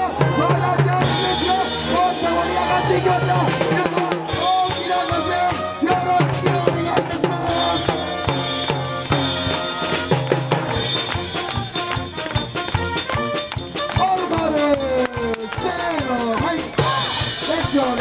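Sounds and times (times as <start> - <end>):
brass band playing: 0.0 - 18.0
drum kit: 0.0 - 18.0.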